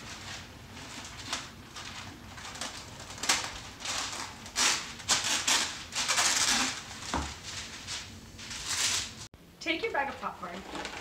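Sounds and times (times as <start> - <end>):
parchment paper rustling and crinkling: 0.0 - 9.3, 10.0 - 11.0.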